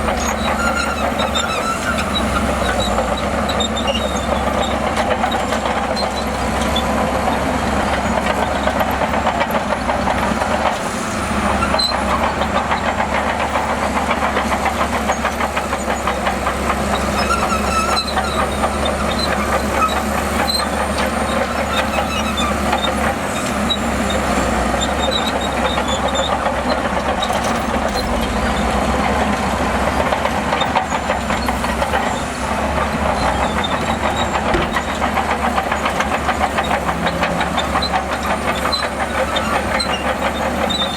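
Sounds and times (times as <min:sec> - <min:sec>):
bulldozer diesel engine: 0:00.0 - 0:40.9.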